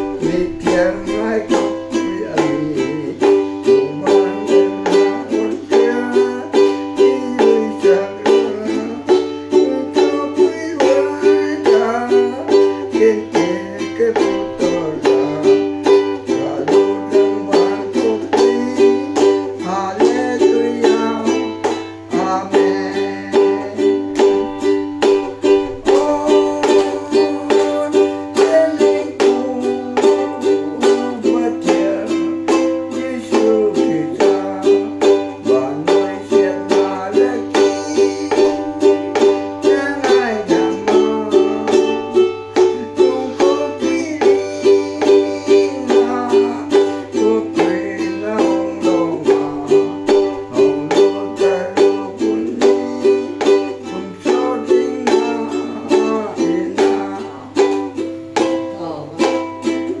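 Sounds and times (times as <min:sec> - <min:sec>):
men singing: 0:00.0 - 1:00.0
ukulele strumming: 0:00.0 - 1:00.0.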